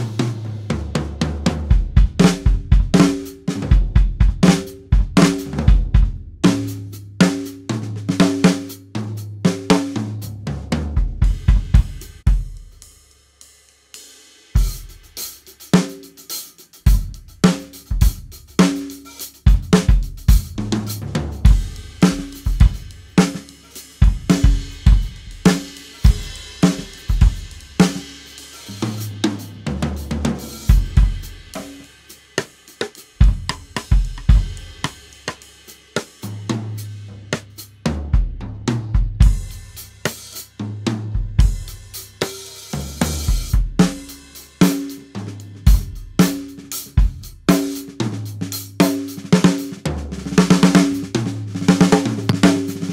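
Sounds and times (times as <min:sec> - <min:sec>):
drum kit played solo: 0:00.0 - 0:52.9.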